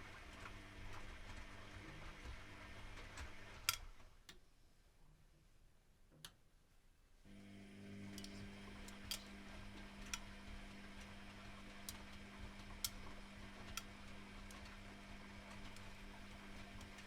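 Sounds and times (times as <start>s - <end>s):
washing machine motor hum: 0.0s - 4.2s, 7.3s - 17.0s.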